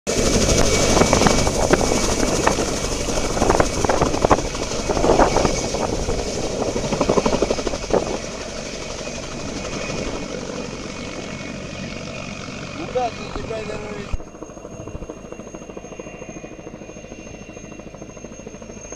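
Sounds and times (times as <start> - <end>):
helicopter engines whistling: 0.1 - 18.9
helicopter rotor chopping: 0.1 - 18.9.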